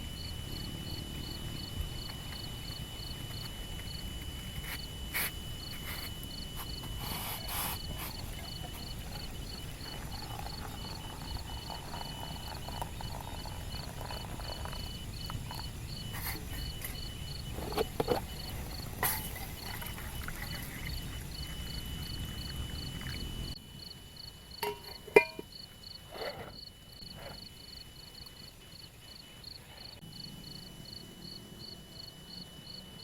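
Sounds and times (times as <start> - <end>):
insect trill: 0.0 - 33.0
insects chirping: 0.0 - 33.0.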